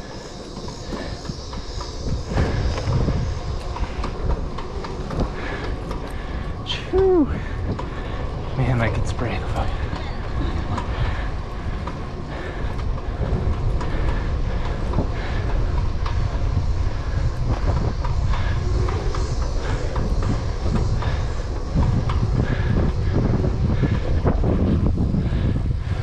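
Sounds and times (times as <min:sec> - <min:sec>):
bicycle clicks and rattles: 0:00.0 - 0:26.0
bicycle tyres and wind rumble: 0:00.0 - 0:26.0.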